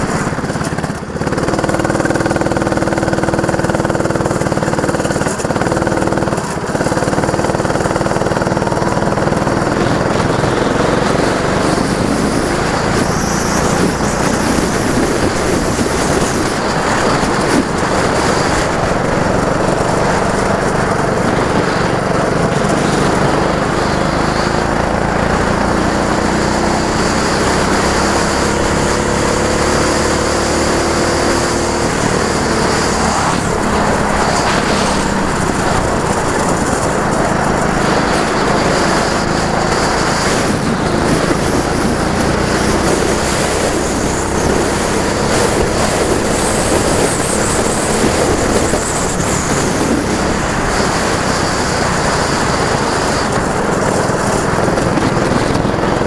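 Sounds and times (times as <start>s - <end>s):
go-kart engine accelerating: 0.0s - 56.0s
road noise: 0.0s - 56.0s.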